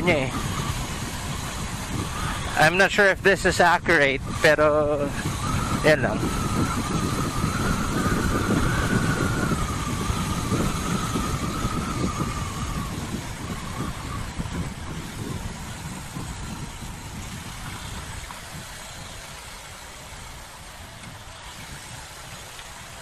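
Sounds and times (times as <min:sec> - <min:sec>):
motorcycle engine rumble: 0:00.0 - 0:23.0
thin wavering whine: 0:00.0 - 0:23.0
wind on microphone: 0:00.0 - 0:23.0.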